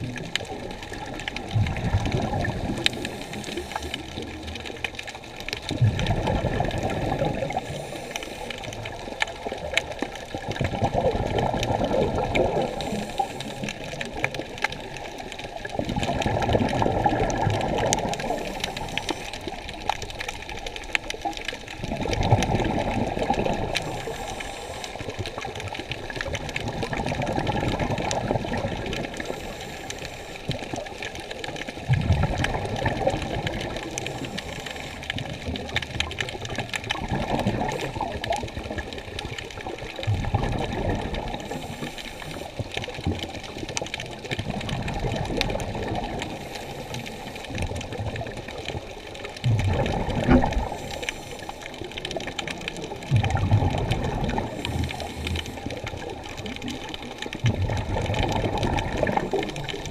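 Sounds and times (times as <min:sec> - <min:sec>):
faint clicks: 0:00.0 - 0:59.9
muffled underwater water rush: 0:00.0 - 0:59.9.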